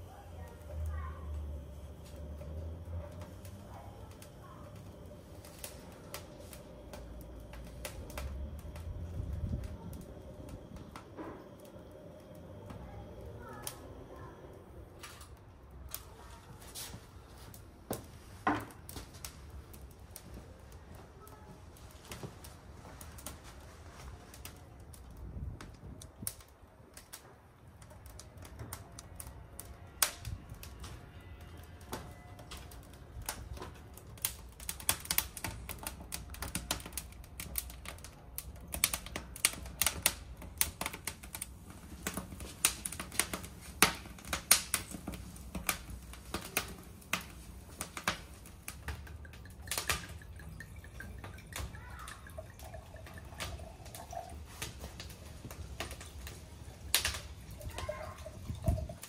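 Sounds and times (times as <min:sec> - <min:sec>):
low steady fire rush: 0:00.0 - 0:31.2, 0:32.1 - 0:59.0
firewood crackling and popping: 0:00.0 - 0:59.0.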